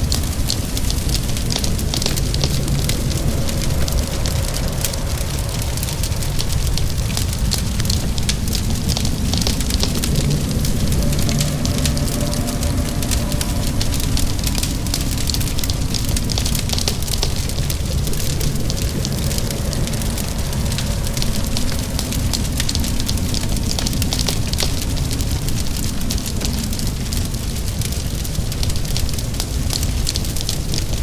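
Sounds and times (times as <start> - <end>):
low rumble: 0.0 - 31.0
rain hissing: 0.0 - 31.0
wood fire crackling: 0.0 - 31.0.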